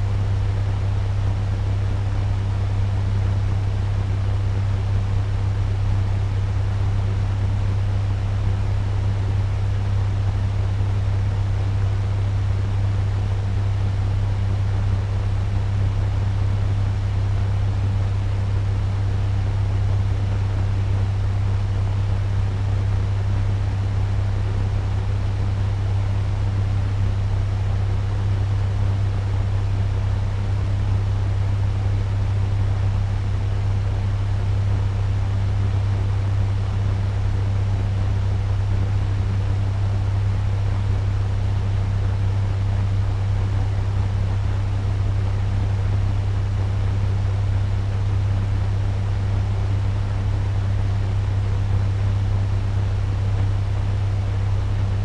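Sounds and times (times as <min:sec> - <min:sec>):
fan running with low hum: 0:00.0 - 0:55.0.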